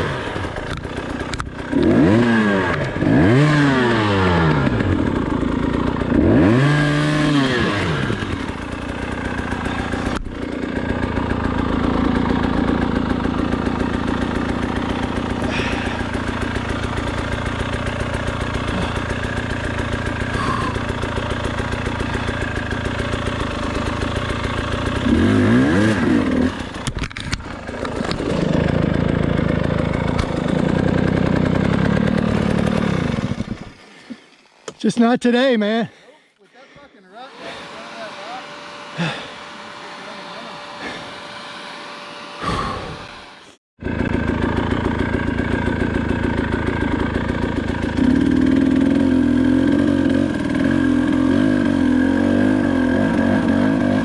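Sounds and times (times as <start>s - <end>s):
two-stroke engine revving: 0.0s - 34.2s, 36.6s - 54.0s.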